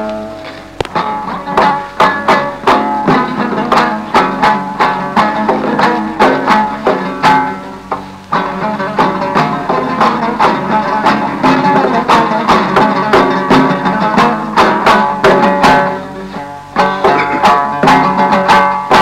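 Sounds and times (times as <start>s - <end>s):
plucked string instrument melody: 0.0s - 19.0s.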